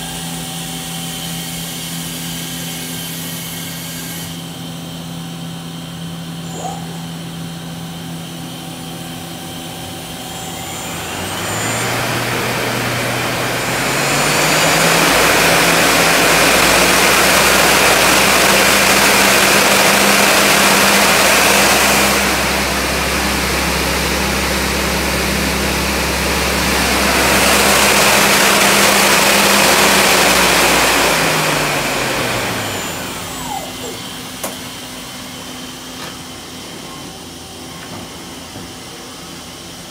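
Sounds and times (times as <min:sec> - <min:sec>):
rushing whir of spinning chuck: 0:00.0 - 0:39.8
machine spindle drive whine: 0:00.0 - 0:39.9.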